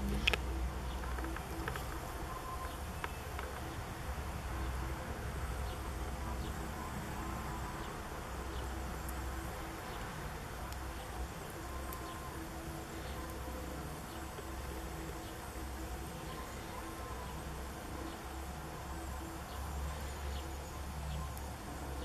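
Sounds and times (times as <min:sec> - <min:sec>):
faint insects buzzing: 0:00.0 - 0:22.0
low continuous rumble: 0:00.0 - 0:22.0.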